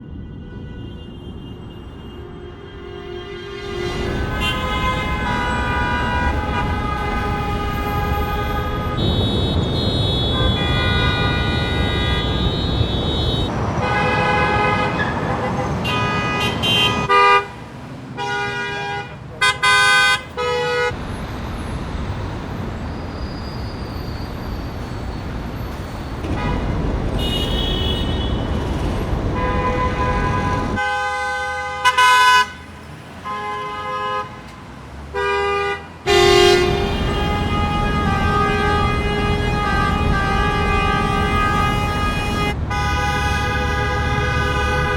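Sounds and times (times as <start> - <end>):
traffic rumble: 0.0 - 44.9
car horns honking: 0.3 - 21.0, 24.8 - 44.9.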